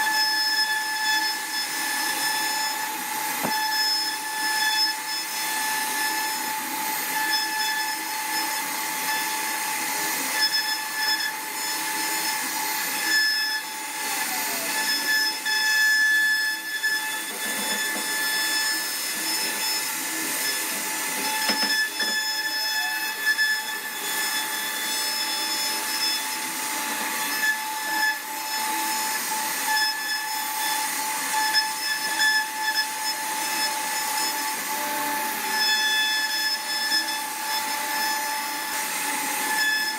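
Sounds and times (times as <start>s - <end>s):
bit cutting wood: 0.0s - 39.9s
router spindle whining: 0.0s - 39.9s.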